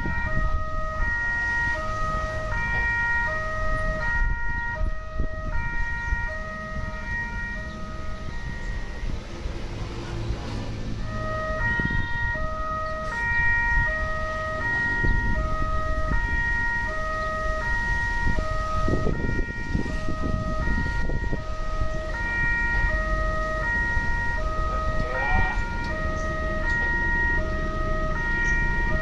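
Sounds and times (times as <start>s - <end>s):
level crossing electronic alarm: 0.0s - 9.5s, 11.0s - 29.0s.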